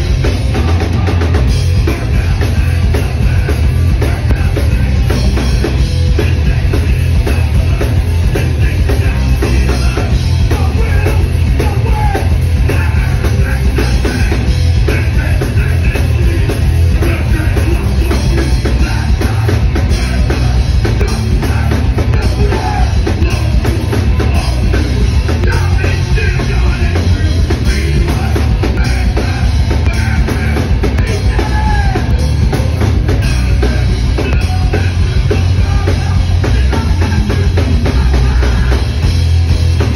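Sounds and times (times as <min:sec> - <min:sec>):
punk band playing live: 0:00.0 - 0:39.9.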